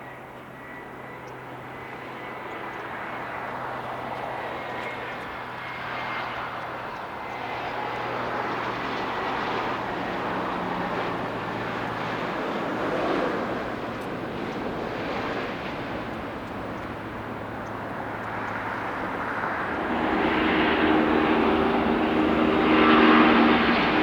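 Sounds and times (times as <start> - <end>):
faint high whine: 0.0 - 12.3, 15.8 - 24.0
jet airliner engines: 0.0 - 24.0.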